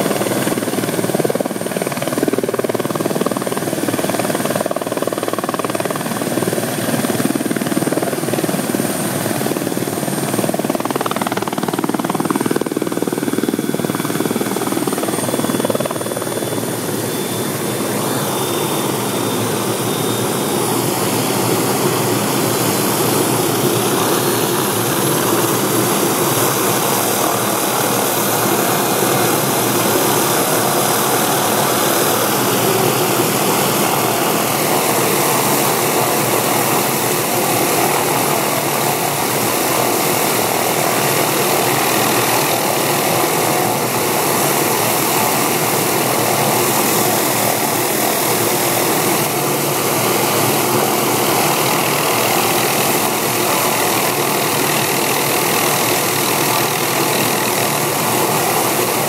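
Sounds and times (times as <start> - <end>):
helicopter rotor turning: 0.0 - 59.0
helicopter turbine running: 0.0 - 59.0.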